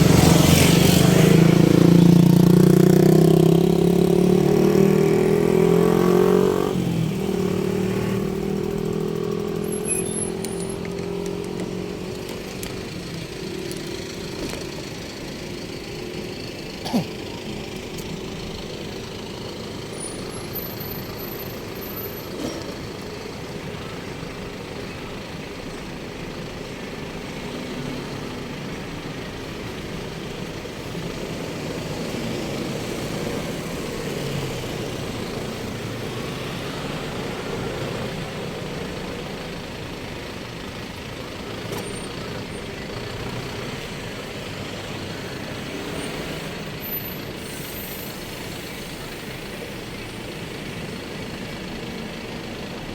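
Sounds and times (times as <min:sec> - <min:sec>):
trucks and vehicles running: 0:00.0 - 0:52.9.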